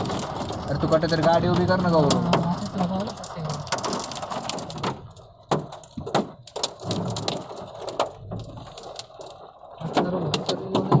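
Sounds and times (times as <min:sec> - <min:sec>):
hailstones knocking on a car: 0:00.0 - 0:11.0
rain hissing: 0:00.0 - 0:11.0.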